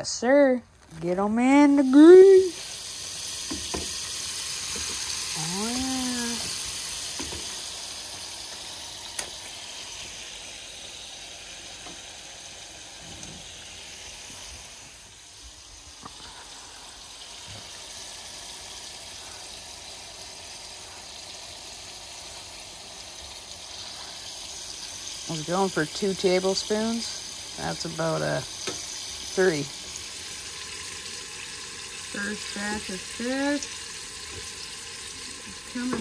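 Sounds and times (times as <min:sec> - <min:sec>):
fish deep-frying in oil: 0:00.3 - 0:36.0.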